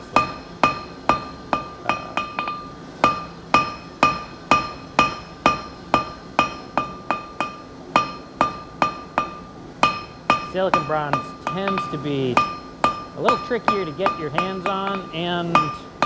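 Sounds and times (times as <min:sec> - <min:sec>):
hammer striking metal on anvil: 0:00.0 - 0:16.0.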